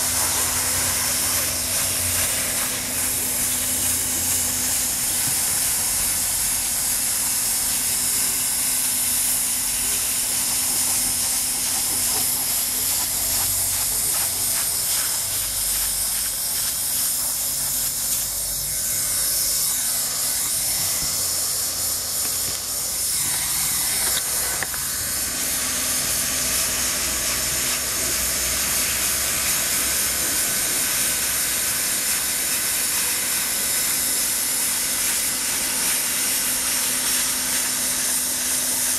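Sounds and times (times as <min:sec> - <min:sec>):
blower motor hum: 0:00.0 - 0:38.9
hot air hiss: 0:00.0 - 0:38.9.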